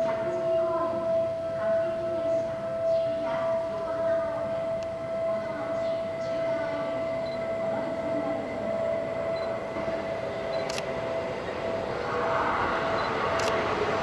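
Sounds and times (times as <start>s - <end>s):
electric train running: 0.0s - 14.0s
steady high tone: 0.0s - 14.0s.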